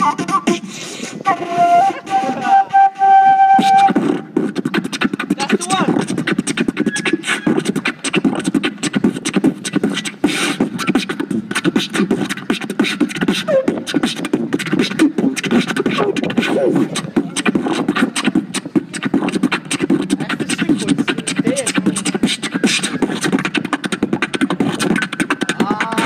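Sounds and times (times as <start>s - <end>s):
beatboxing: 0.0s - 26.0s.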